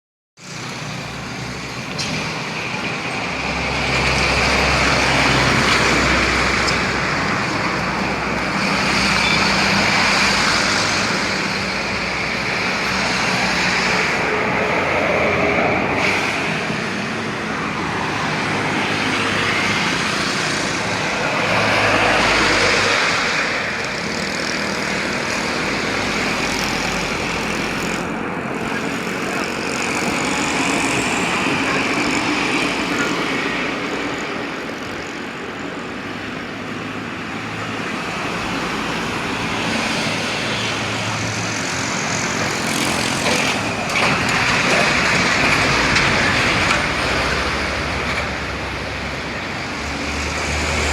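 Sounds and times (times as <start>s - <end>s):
tyre and road noise: 0.4s - 50.9s.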